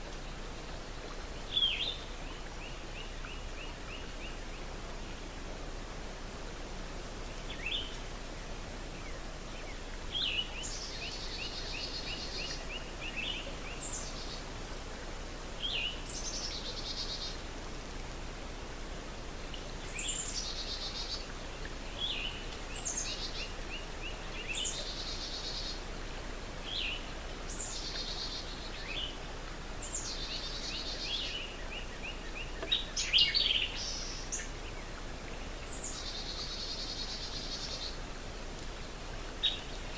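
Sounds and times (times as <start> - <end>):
songbirds singing: 0.0 - 5.8, 7.2 - 14.6, 15.5 - 17.7, 19.3 - 39.9
steady outdoor hiss: 0.0 - 39.9.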